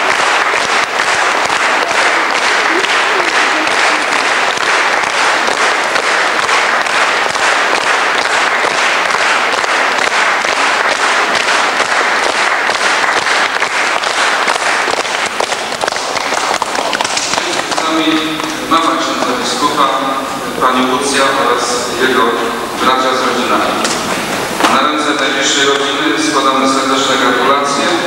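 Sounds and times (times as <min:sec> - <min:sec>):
crowd applauding: 0:00.0 - 0:28.0.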